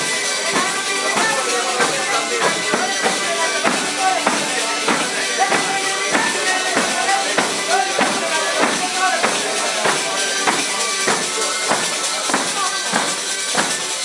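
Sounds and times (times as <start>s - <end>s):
jingling frame drums: 0.0s - 14.0s
voices singing: 0.0s - 14.0s.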